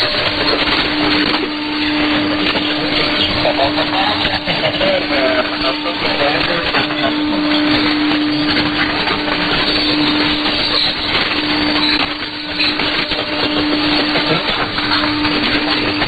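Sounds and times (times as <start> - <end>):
radio static and hiss: 0.0 - 16.0
steady low tone: 0.0 - 16.0.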